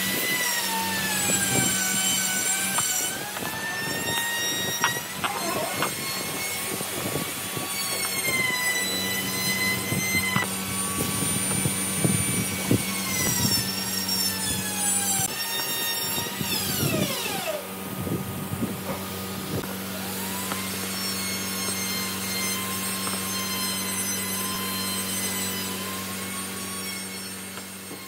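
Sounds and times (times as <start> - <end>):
power tool whining: 0.0 - 28.0.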